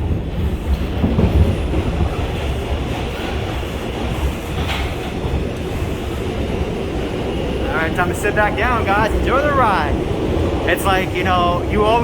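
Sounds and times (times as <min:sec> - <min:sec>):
rumble of wheels on rail: 0:00.0 - 0:12.0.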